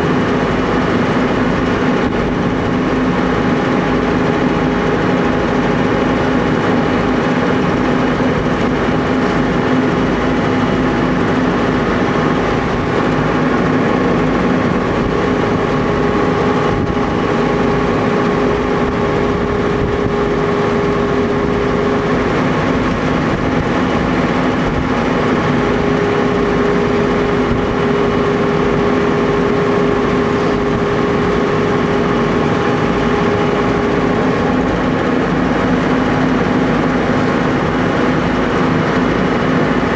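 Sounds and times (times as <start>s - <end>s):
boat engine running: 0.0s - 39.9s
high steady whine: 0.0s - 39.9s.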